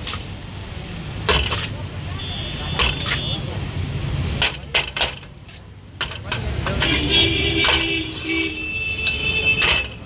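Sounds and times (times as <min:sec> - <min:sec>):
low street rumble: 0:00.0 - 0:10.0.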